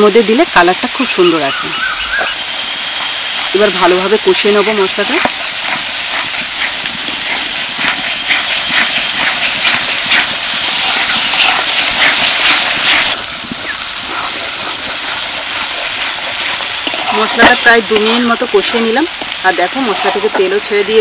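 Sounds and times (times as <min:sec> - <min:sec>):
paste sizzling in hot oil: 0:00.0 - 0:21.0
spatula stirring: 0:02.6 - 0:21.0.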